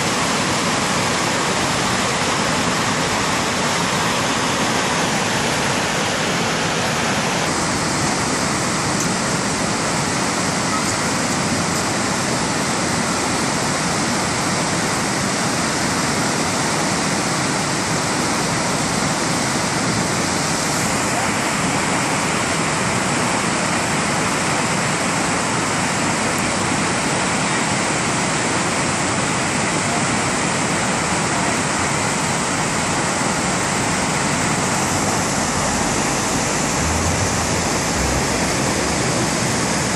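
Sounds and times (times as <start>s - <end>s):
river rushing through rapids: 0.0s - 39.9s.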